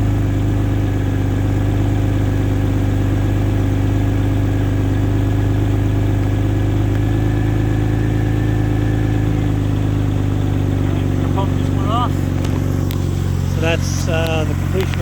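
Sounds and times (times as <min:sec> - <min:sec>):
car engine fast idle: 0:00.0 - 0:15.0.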